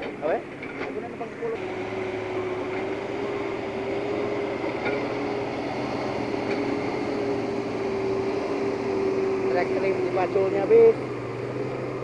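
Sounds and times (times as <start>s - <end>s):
excavator diesel engine running: 0.0s - 12.0s
mid-pitched whine: 0.0s - 12.0s.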